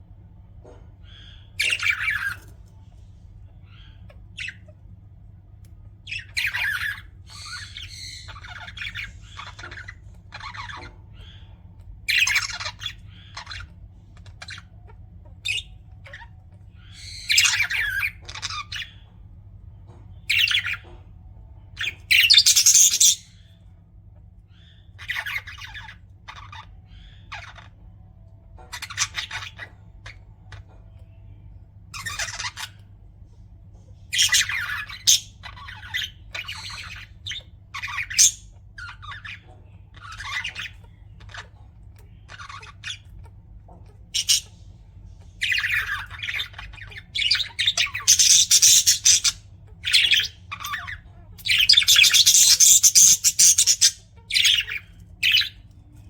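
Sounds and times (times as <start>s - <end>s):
budgerigars chirping: 0.6s - 2.6s, 3.5s - 4.9s, 6.0s - 19.1s, 20.2s - 21.0s, 21.7s - 23.6s, 24.5s - 27.9s, 28.6s - 30.9s, 31.9s - 32.9s, 33.8s - 56.0s.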